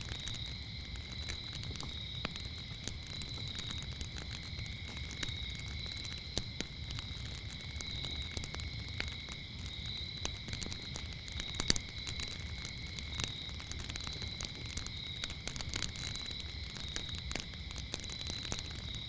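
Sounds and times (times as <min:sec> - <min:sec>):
crickets chirping: 0:00.0 - 0:19.0
wood fire crackling and popping: 0:00.0 - 0:19.0.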